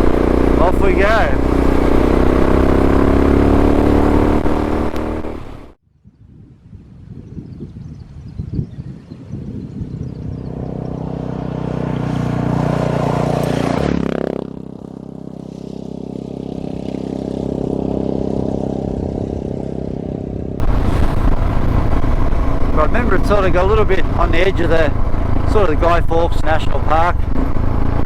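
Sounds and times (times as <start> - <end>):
motorcycle engine accelerating: 0.0 - 5.8, 9.9 - 28.0.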